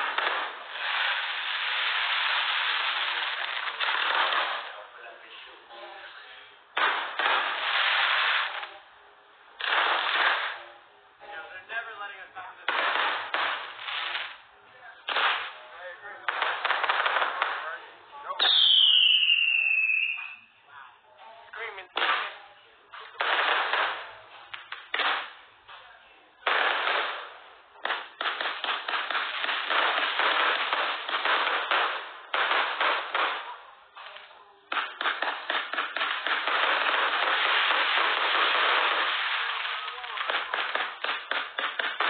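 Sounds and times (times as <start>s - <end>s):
fireworks crackling pops: 0.0s - 5.4s, 6.2s - 8.9s, 9.6s - 10.8s, 12.6s - 20.4s, 21.8s - 42.0s.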